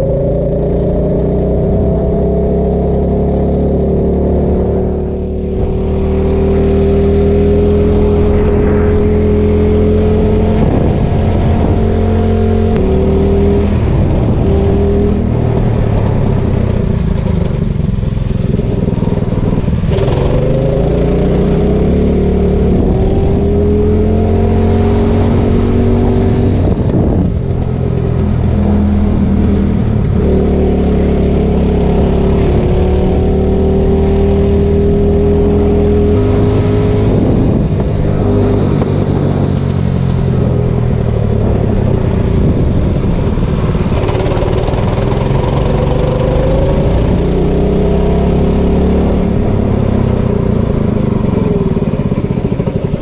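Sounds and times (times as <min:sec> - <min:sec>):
vehicle engine accelerating: 0:00.0 - 0:53.0.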